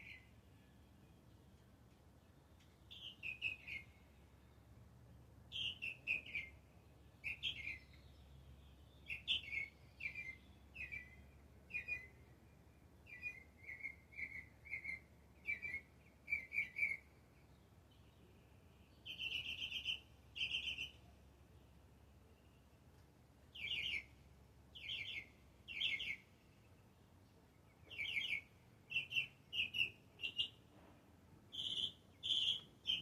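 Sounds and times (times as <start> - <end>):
songbird chirping: 0.0 - 33.0.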